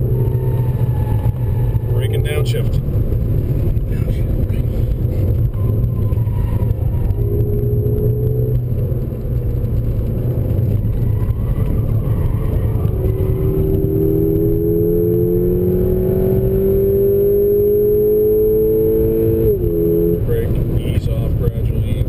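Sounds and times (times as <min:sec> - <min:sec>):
car engine accelerating: 0:00.0 - 0:22.0
tyre and road rumble: 0:00.0 - 0:22.0.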